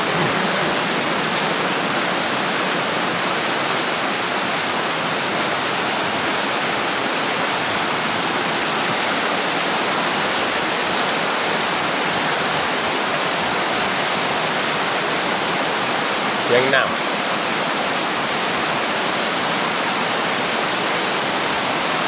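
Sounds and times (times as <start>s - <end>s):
heavy rain: 0.0s - 22.0s
running water: 0.0s - 22.0s.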